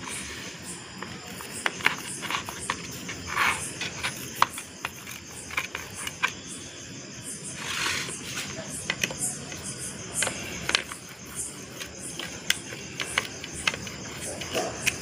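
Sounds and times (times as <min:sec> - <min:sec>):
spatula scraping a plate: 0:00.0 - 0:06.4, 0:07.5 - 0:15.0.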